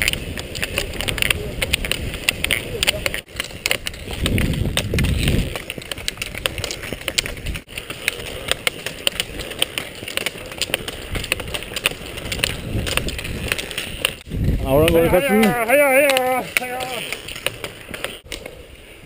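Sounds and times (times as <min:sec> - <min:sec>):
ski pole tips clicking on road: 0:00.0 - 0:18.6
roller skis rolling on asphalt: 0:00.0 - 0:19.0.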